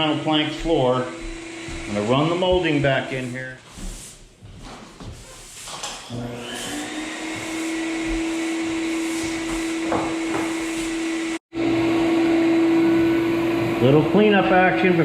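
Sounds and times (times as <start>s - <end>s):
vacuum cleaner humming: 0.0s - 15.0s.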